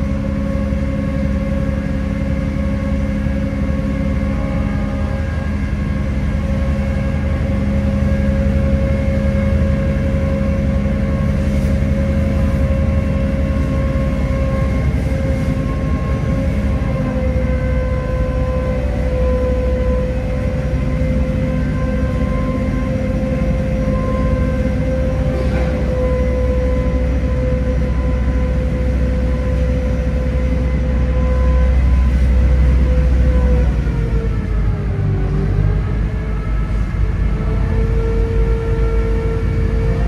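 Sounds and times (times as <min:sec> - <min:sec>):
ferry engines droning: 0:00.0 - 0:40.0.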